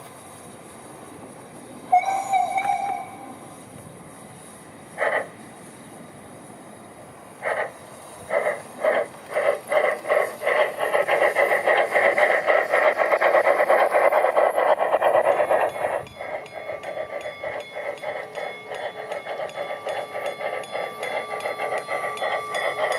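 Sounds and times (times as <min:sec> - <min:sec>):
steam locomotive chuffing: 0:00.0 - 0:22.9.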